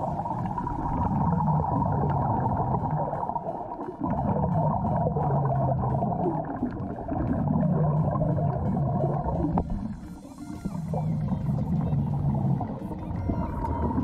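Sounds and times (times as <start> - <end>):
low hum: 0.0 - 14.0
underwater rumbling and bubbling: 0.0 - 14.0.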